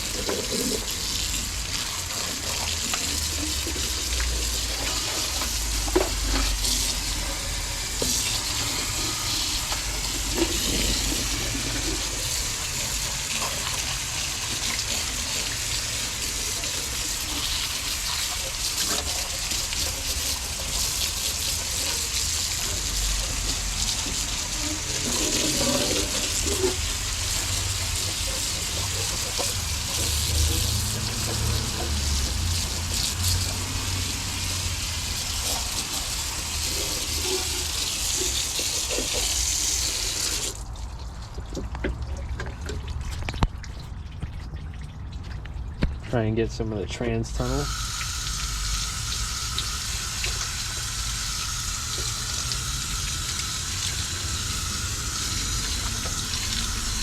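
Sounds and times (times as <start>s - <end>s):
water running and splashing: 0.0s - 46.3s, 47.4s - 57.0s.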